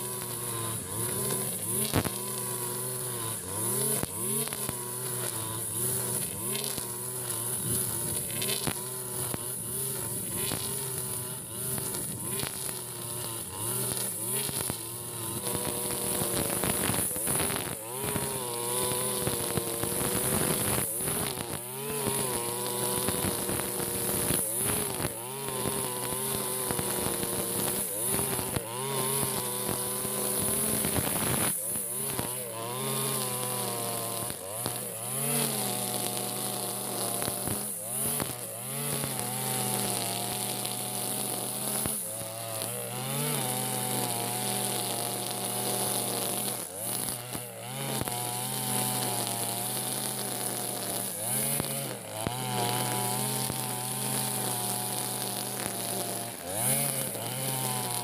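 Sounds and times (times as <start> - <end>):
brush cutter engine cutting grass: 0.0 - 58.0.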